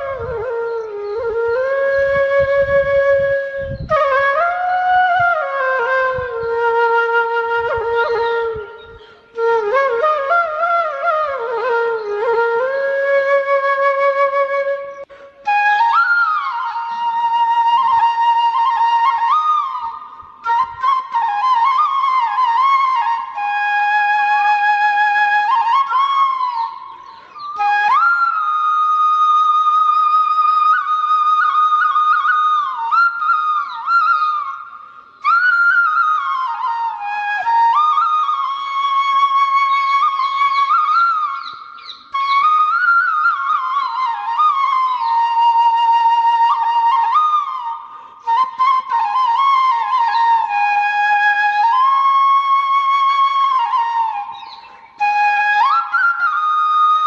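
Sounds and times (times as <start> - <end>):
flute playing: 0.0 - 57.0.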